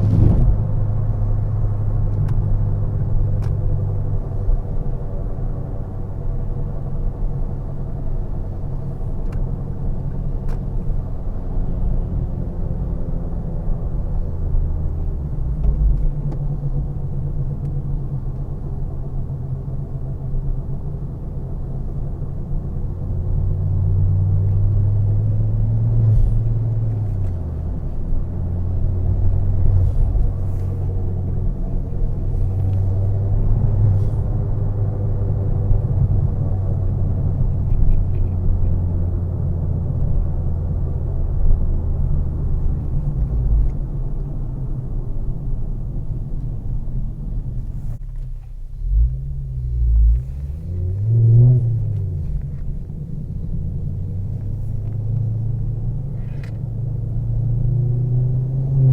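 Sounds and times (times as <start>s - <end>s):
car engine rumbling: 0.0s - 58.9s.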